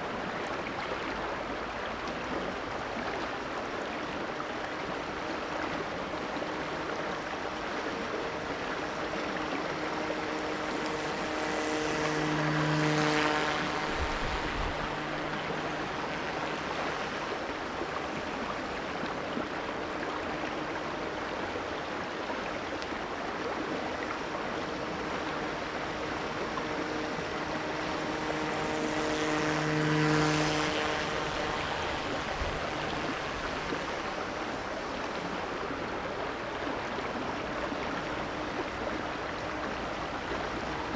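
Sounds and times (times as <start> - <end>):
creek water rushing: 0.0 - 40.9
model boat motor humming: 0.0 - 40.9.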